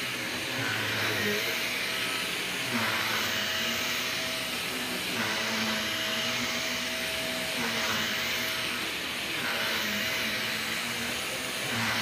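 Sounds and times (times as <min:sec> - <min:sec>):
stick vacuum running on a rug: 0:00.0 - 0:12.0.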